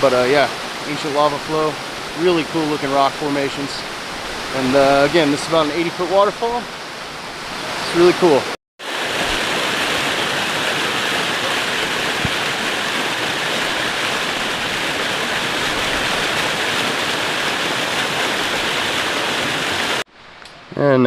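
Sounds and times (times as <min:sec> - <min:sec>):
waterfall rushing: 0:00.0 - 0:20.1.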